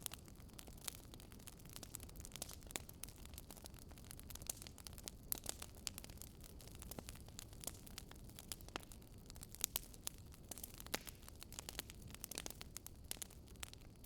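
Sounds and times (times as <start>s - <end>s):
faint wood fire crackling: 0.0s - 14.0s.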